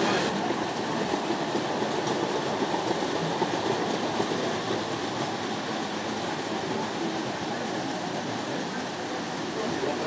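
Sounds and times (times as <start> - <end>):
model trains whirring: 0.0 - 10.0.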